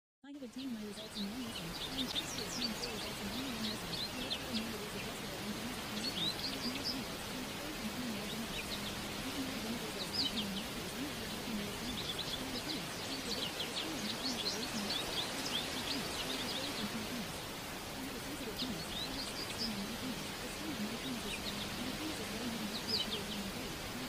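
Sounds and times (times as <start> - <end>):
faint low voice: 0.3 - 24.0
small birds chirping: 0.3 - 24.0
steady hiss: 0.5 - 24.0.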